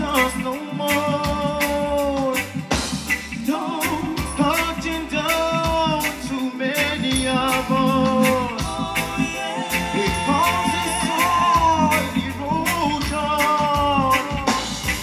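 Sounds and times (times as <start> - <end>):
person singing: 0.0 - 2.6, 3.4 - 15.0
reggae bass and drums: 0.0 - 15.0.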